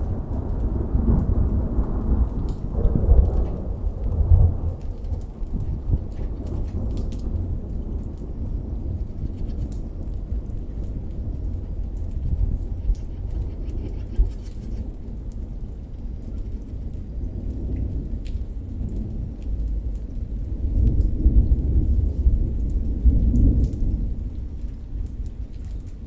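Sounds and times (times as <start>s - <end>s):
raindrops ticking: 0.0s - 26.0s
thunder rumbling: 0.0s - 26.0s.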